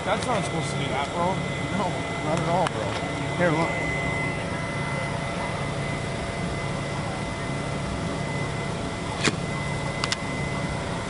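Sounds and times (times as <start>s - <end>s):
machinery humming with high whine: 0.0s - 11.0s.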